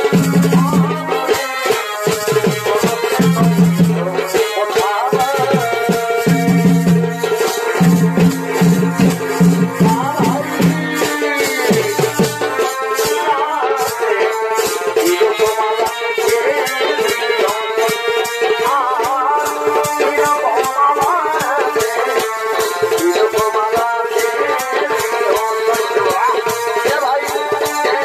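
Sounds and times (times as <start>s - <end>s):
drumming: 0.0s - 28.0s.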